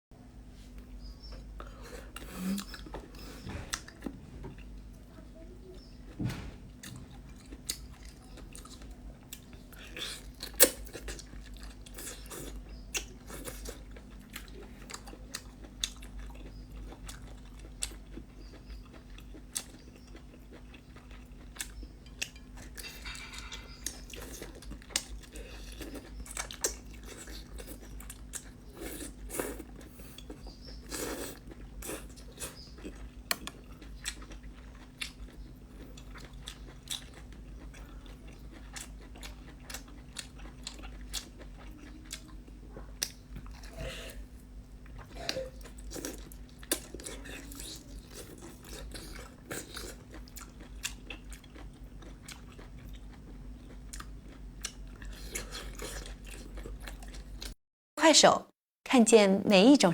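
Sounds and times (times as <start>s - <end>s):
person chewing crunchy food: 1.0s - 4.8s, 6.8s - 57.6s.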